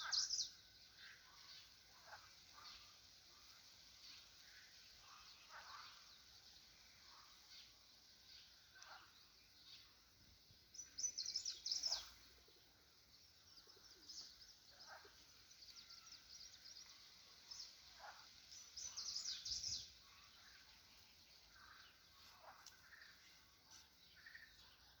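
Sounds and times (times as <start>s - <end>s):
birds twittering: 0.0s - 25.0s.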